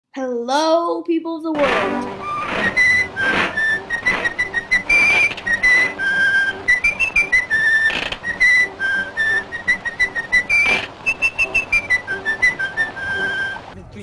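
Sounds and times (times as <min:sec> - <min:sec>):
faint backing music: 0:01.5 - 0:14.0
person whistling a tune: 0:02.2 - 0:13.7.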